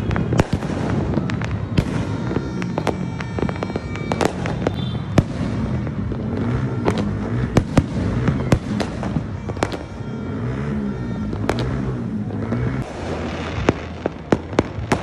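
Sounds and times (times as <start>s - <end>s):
fireworks and firecrackers banging: 0.0s - 15.0s.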